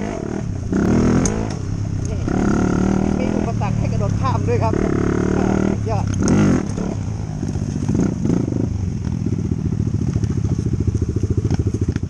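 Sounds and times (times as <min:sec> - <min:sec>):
dirt bike engine chugging: 0:00.0 - 0:12.0.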